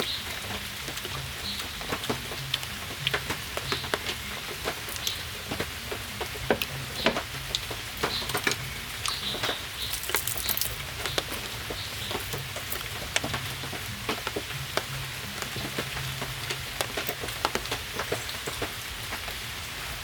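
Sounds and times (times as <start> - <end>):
rain pattering: 0.0 - 20.0
drops ticking onto a surface: 0.3 - 19.3.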